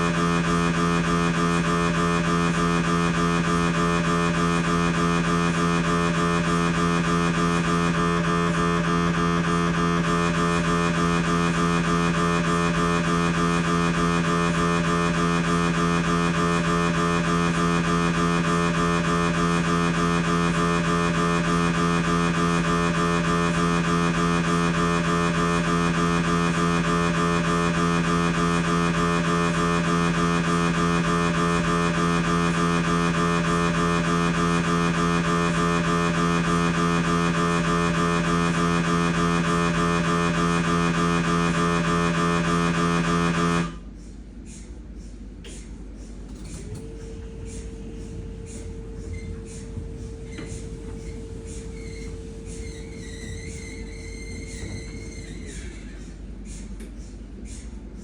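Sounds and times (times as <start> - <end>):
mri scanner pulsing buzz: 0.0 - 43.9, 45.9 - 56.7.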